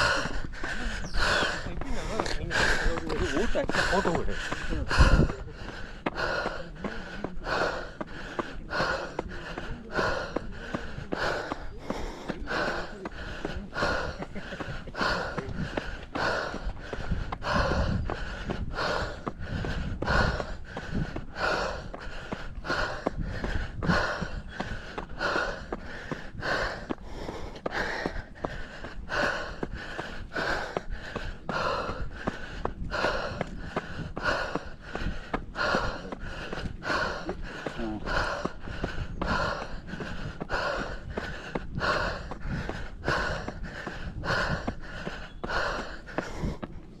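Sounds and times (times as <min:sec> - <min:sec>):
heavy rhythmic breathing: 0:00.0 - 0:47.0.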